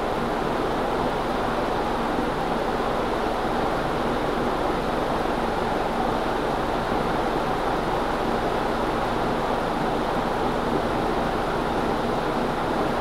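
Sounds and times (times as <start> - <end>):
ceiling fan air rush: 0.0 - 13.0.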